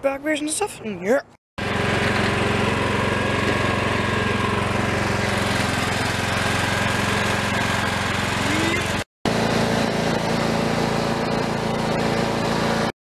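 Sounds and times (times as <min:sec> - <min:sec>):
lawn mower engine running: 0:01.6 - 0:12.9.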